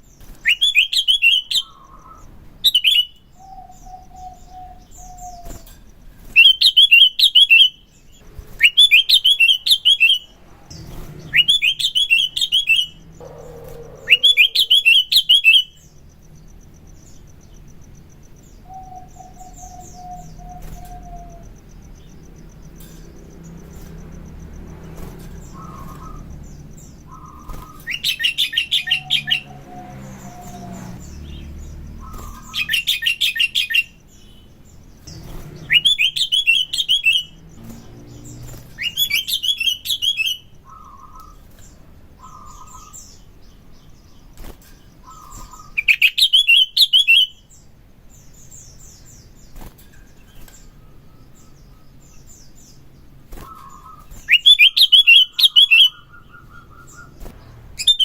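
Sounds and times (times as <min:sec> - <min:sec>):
bird chattering song: 0:00.0 - 0:58.0
soft low whistled bird notes: 0:00.0 - 0:58.0.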